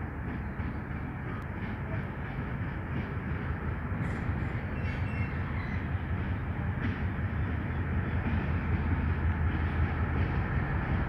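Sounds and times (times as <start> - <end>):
locomotive engine rumble: 0.0 - 11.0
train rolling on rails: 0.0 - 11.0.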